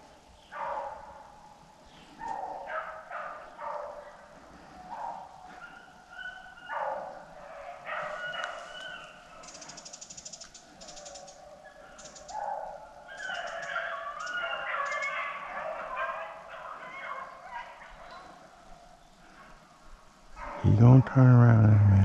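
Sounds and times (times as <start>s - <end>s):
hounds baying: 0.5s - 9.8s, 10.4s - 22.0s.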